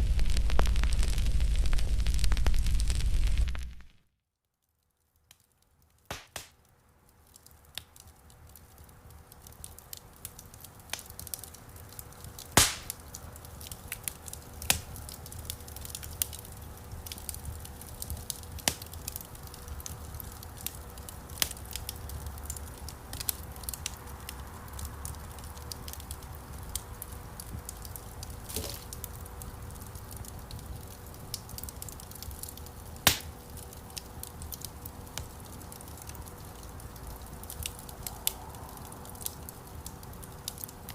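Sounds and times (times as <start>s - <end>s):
campfire crackling and popping: 0.0s - 4.1s, 5.1s - 40.9s.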